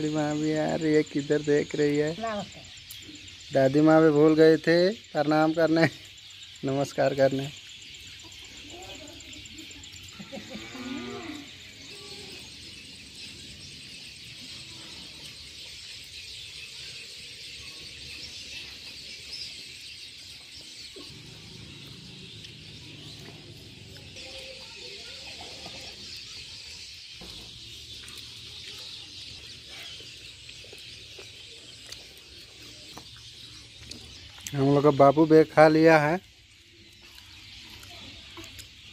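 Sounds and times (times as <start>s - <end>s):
birds and insects chorus: 0.0s - 38.9s.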